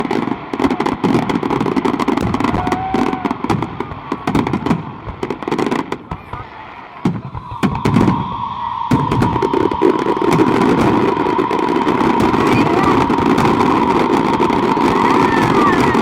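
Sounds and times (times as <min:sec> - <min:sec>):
firework whistle: 0:00.0 - 0:16.0
fireworks bangs and cracks: 0:00.0 - 0:16.0.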